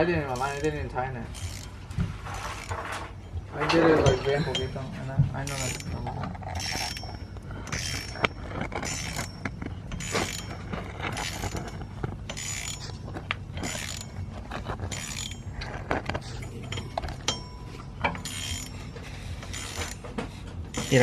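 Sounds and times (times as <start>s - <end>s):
hand tool scraping metal: 0.0s - 21.0s
steady low hum: 0.0s - 21.0s.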